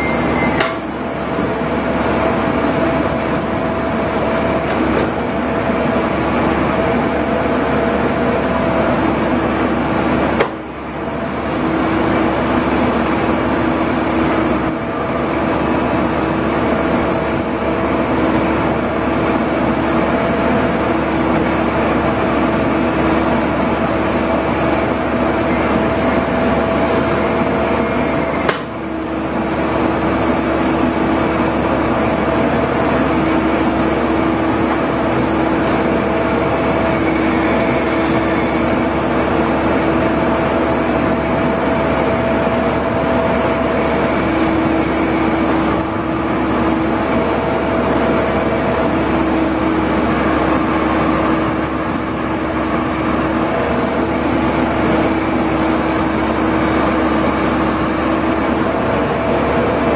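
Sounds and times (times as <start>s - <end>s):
diesel engine running under load: 0.0s - 59.9s
hydraulic whine: 0.0s - 59.9s.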